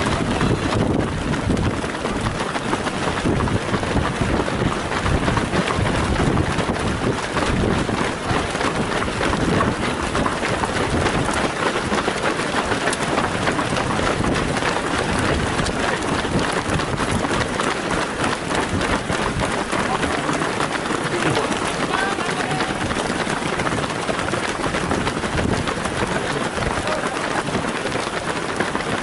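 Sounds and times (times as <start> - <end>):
runners' shoes pattering on road: 0.0 - 29.0
wind rumbling on microphone: 0.0 - 29.0.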